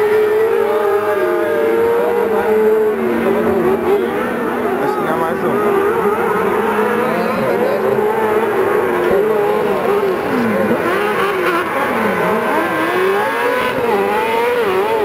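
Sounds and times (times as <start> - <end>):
racing buggy engines whining: 0.0 - 15.0.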